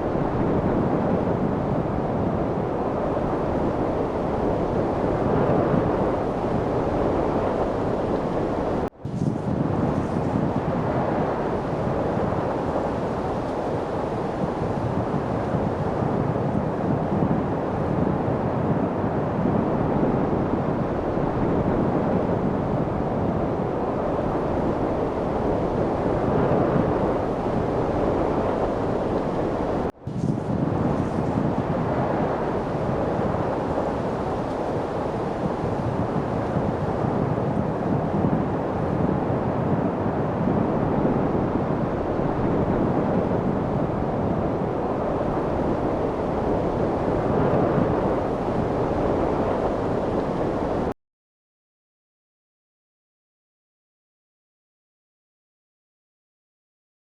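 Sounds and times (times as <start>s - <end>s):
wind rushing: 0.0s - 50.9s.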